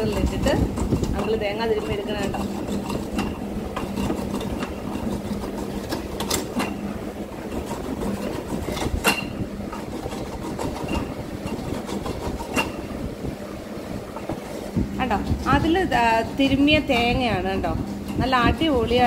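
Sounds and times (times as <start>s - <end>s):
scratchy grinding of coconut: 0.0s - 13.1s, 13.7s - 18.8s
electric grater humming: 0.0s - 19.0s.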